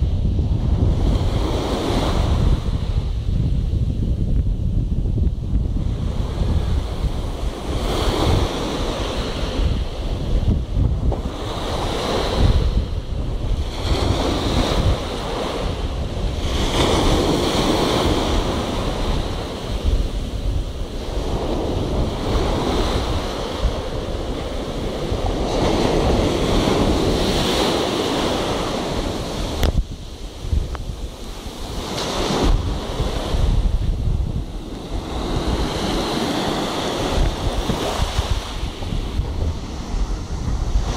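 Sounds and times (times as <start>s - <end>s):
sea waves breaking on shore: 0.0s - 40.9s
wind rumbling on microphone: 0.0s - 40.9s.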